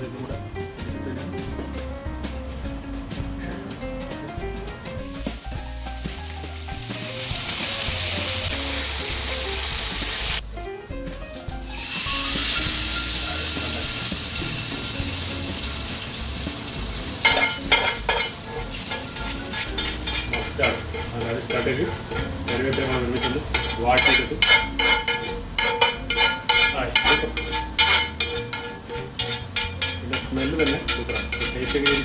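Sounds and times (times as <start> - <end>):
hot oil sizzling: 4.9 - 10.4, 11.3 - 32.0.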